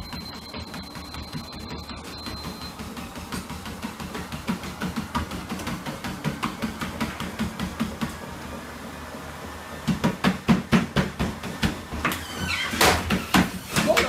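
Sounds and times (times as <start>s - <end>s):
feet thudding on treadmill belt: 0.0s - 8.9s, 9.6s - 14.0s
treadmill humming: 0.0s - 14.0s.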